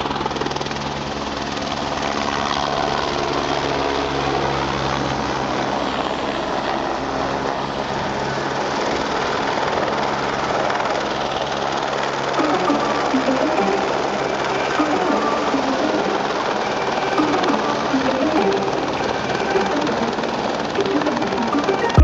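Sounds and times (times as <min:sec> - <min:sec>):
helicopter running at low height: 0:00.0 - 0:22.0.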